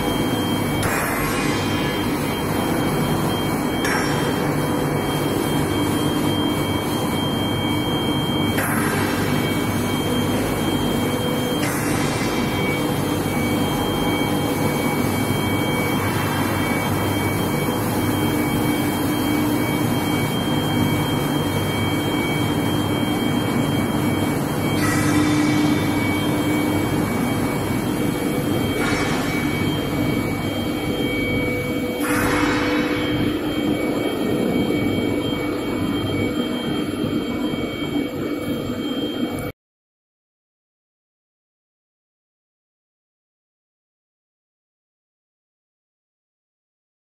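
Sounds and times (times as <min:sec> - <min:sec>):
machine low hum: 0:00.0 - 0:39.5
machine high whine: 0:00.0 - 0:39.6.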